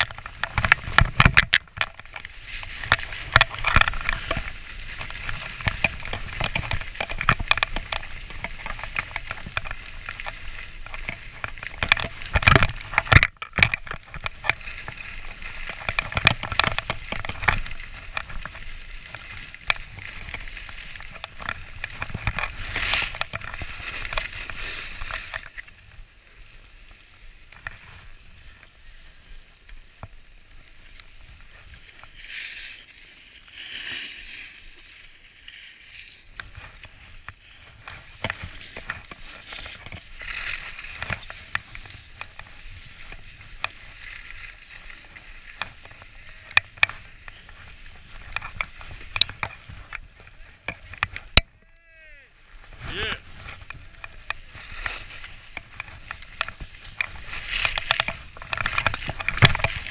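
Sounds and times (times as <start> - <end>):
ski edges crackling on snow: 0.0 - 59.9
skis scraping over snow: 0.0 - 59.9.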